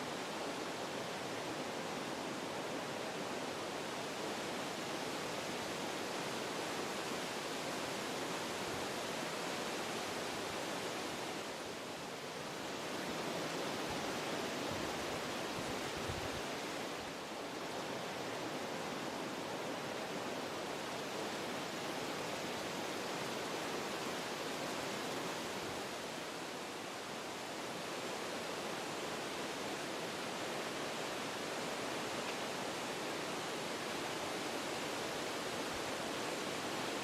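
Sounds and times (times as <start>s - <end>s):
wind rustling tree leaves: 0.0s - 37.0s.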